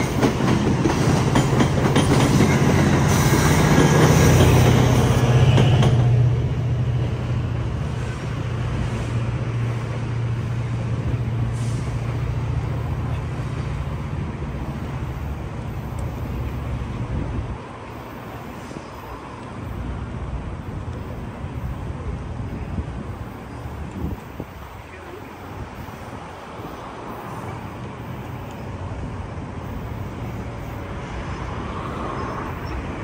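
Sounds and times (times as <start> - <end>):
city traffic hiss: 0.0 - 33.0
diesel locomotive humming: 0.0 - 33.0.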